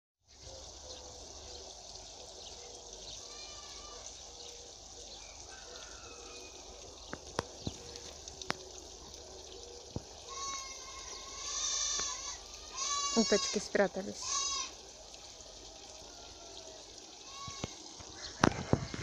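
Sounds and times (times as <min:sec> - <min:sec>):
running water: 0:00.2 - 0:19.0.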